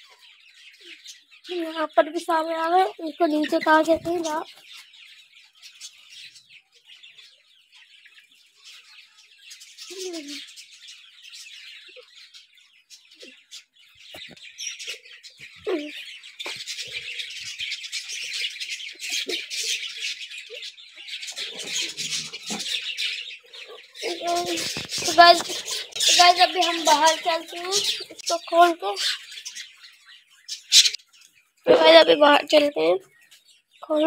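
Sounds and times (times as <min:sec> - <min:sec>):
budgerigars chattering: 0:00.0 - 0:34.0.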